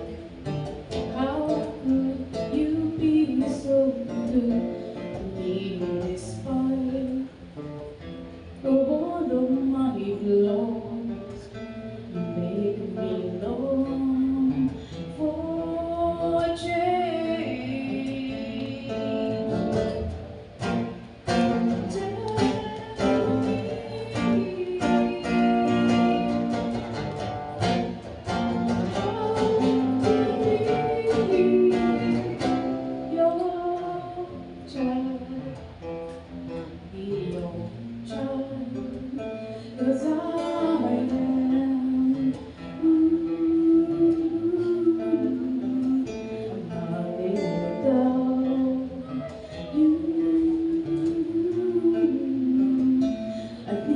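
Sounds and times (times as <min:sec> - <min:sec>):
acoustic guitar strumming: 0:00.0 - 0:53.9
person singing: 0:08.6 - 0:35.7, 0:36.6 - 0:53.9.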